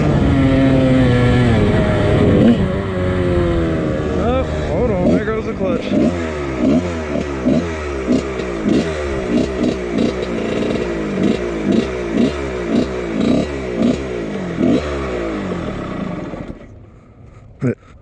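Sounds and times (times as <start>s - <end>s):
dirt bike engine revving: 0.0s - 16.8s.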